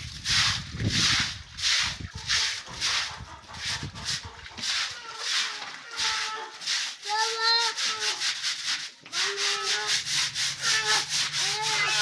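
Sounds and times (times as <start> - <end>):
broom scrubbing wet concrete: 0.0 - 12.0.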